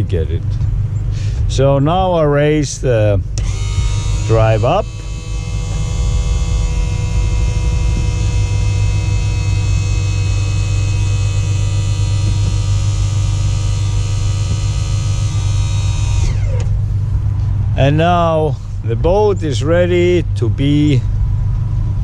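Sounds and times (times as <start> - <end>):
electric pump humming: 0.0 - 20.4.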